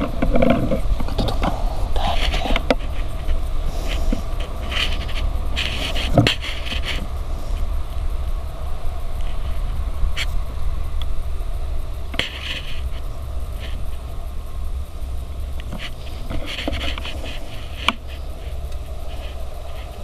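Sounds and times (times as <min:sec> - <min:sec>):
faint rustles and clicks: 0:00.0 - 0:20.0
wind buffeting microphone: 0:00.0 - 0:20.0.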